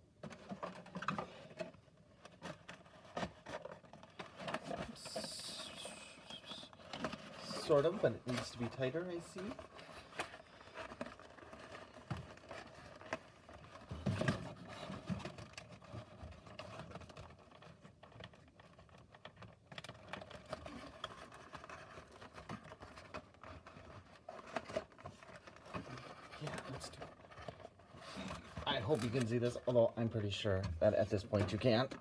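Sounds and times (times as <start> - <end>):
cardboard rustling: 0.1 - 32.0.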